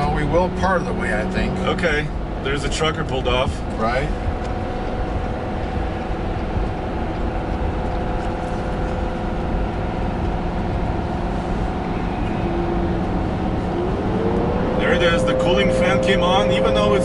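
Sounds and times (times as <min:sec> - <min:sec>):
diesel engine drone in cab: 0:00.0 - 0:17.0
road rumble: 0:00.0 - 0:17.0.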